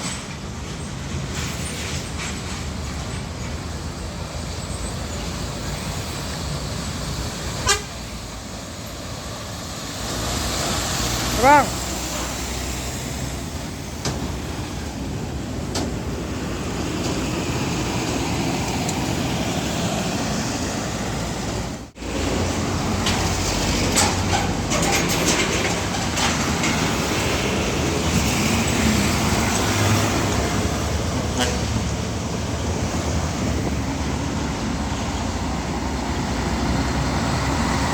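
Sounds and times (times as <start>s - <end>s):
road traffic: 0.0s - 37.9s.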